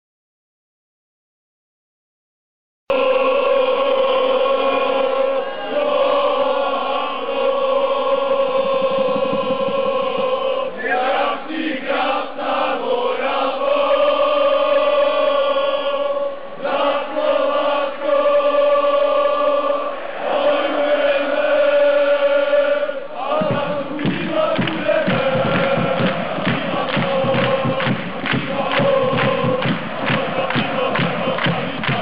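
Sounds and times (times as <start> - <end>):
crowd chanting: 2.9 - 32.0.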